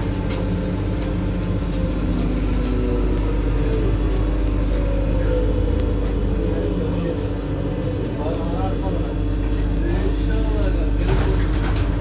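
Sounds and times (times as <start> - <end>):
low hum: 0.0 - 12.0
train rumbling through tunnel: 0.0 - 12.0.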